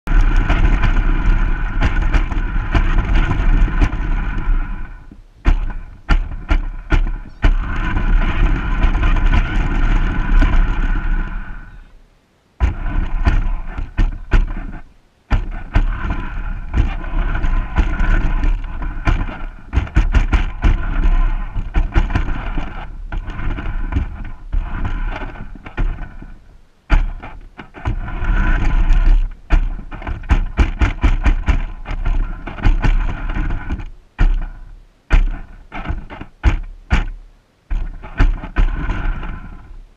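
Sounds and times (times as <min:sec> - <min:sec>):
wheels rumbling on rubber surface: 0:00.0 - 0:39.9.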